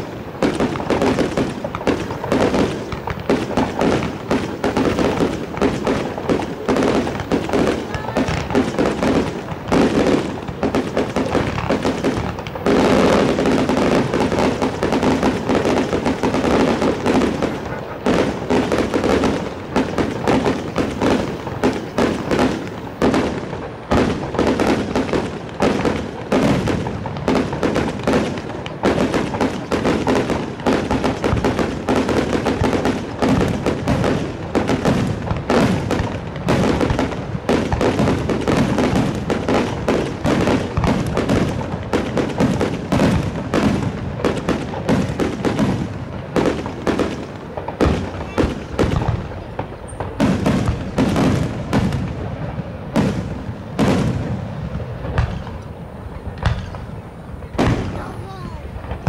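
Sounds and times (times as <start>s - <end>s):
aerial fireworks bursting: 0.0s - 59.0s.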